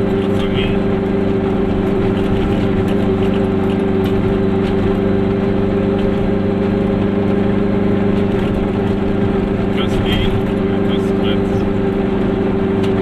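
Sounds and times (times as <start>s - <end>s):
road noise: 0.0s - 13.0s
two-stroke car engine running: 0.0s - 13.0s.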